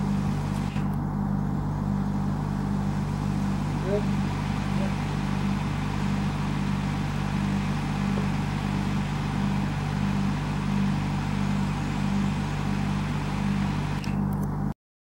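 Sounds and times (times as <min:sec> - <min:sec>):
motor humming: 0:00.0 - 0:14.8.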